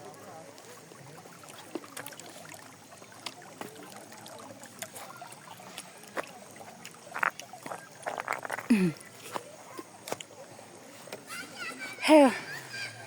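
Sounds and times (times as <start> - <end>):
splashes of wading footsteps: 0.0 - 12.0
river water running: 0.0 - 13.0.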